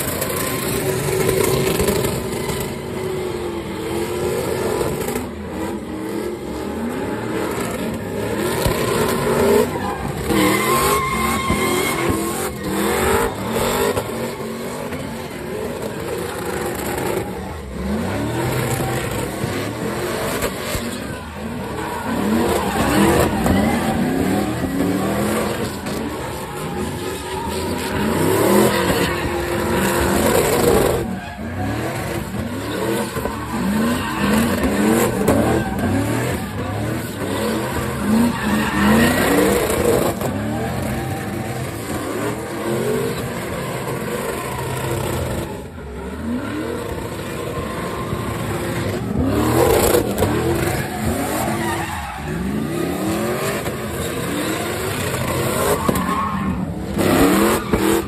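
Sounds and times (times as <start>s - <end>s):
truck engines revving: 0.0s - 58.0s
tyres squealing on pavement: 0.0s - 58.0s.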